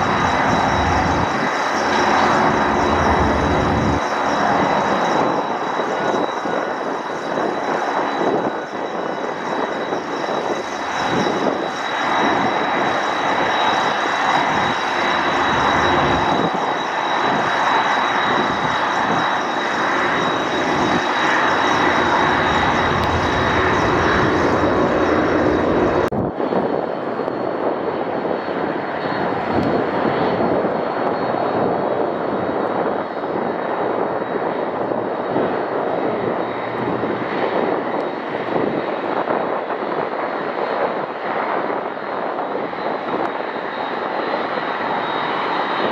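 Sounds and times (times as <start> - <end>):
jet engines roaring with whine: 0.0 - 45.9.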